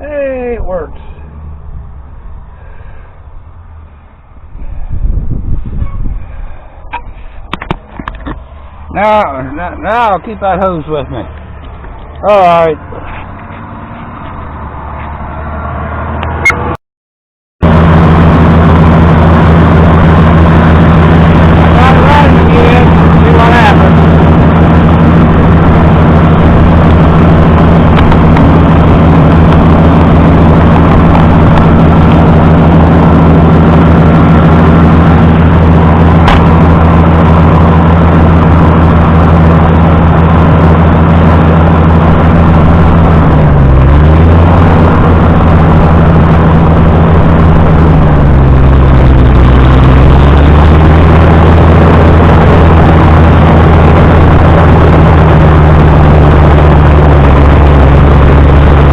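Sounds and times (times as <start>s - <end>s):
tractor engine running: 0.0s - 15.4s, 17.6s - 58.9s.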